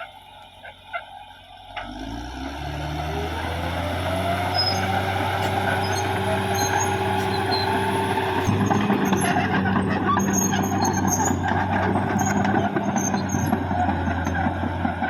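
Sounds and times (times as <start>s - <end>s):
bulldozer diesel engine revving: 0.0s - 15.0s
rising engine whine: 1.5s - 14.8s.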